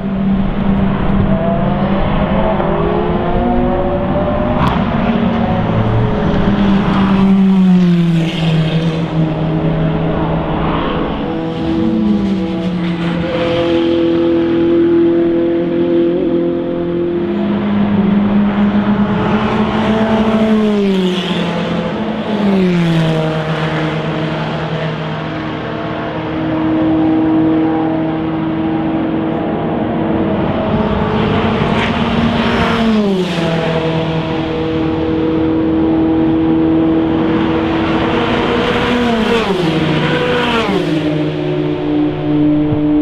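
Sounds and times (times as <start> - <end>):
race cars passing at high revs: 0.0 - 43.0.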